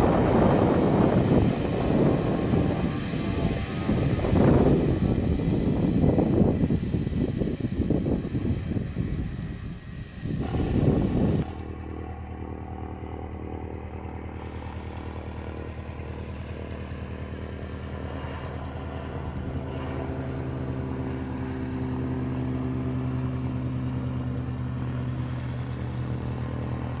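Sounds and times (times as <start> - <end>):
turboprop engine and propeller: 0.0 - 27.0.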